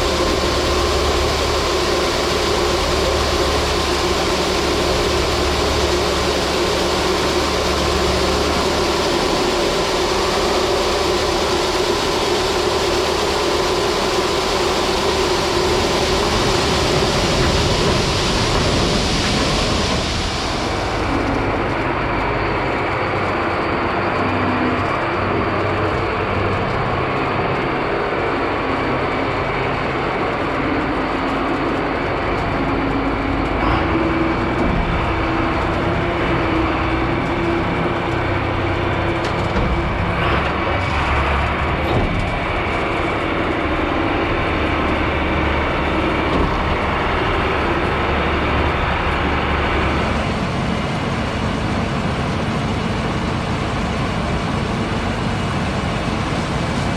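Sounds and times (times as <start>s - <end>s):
heavy farm machinery engine rumble: 0.0s - 56.9s.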